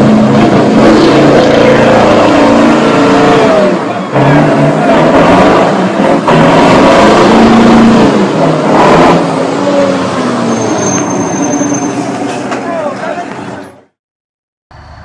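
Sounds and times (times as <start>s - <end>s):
diesel engine revving hard: 0.0s - 12.4s.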